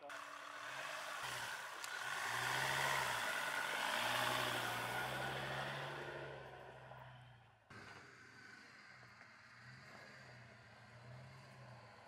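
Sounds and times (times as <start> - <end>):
vehicle engine under load: 0.0 - 12.0.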